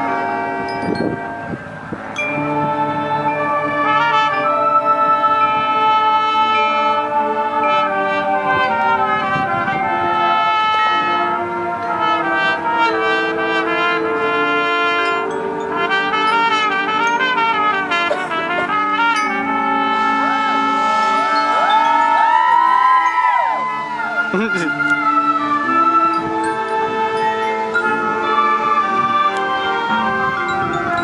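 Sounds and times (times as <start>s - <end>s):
brass band playing latin music: 0.0s - 31.0s
crowd noise: 0.0s - 31.0s.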